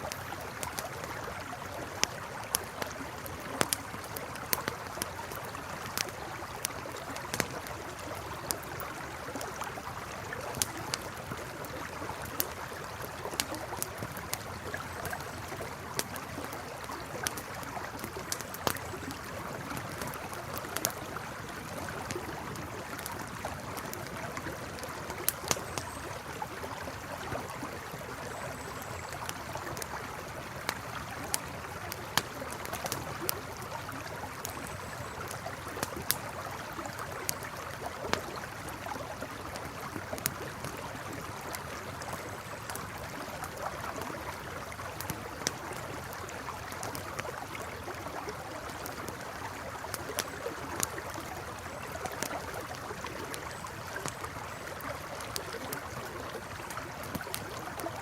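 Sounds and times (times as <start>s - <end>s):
campfire crackling and popping: 0.0s - 58.0s
river flowing: 0.0s - 58.0s.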